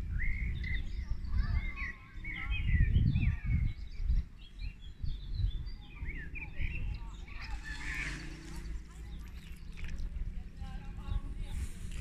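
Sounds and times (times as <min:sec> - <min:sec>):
low microphone rumble: 0:00.0 - 0:12.0
songbirds chirping and twittering: 0:00.0 - 0:12.0.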